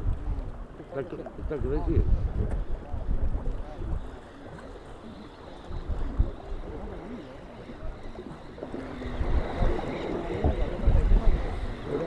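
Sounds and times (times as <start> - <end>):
wind buffeting microphone: 0.0 - 12.0
faint voices: 0.7 - 12.0.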